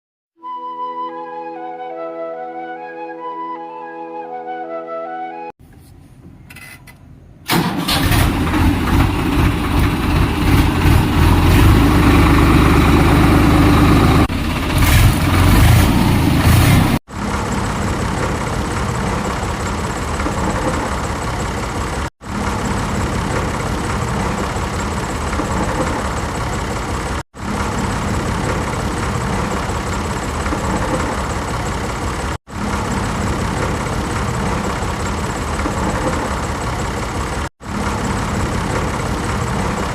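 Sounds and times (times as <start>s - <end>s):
tractor diesel engine running: 7.5s - 39.9s.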